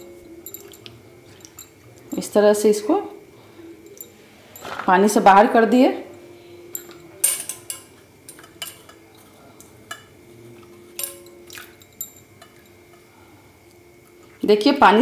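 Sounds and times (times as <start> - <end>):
clinks on steel and glass bowls: 0.0 - 2.4, 3.6 - 4.9, 5.7 - 14.4.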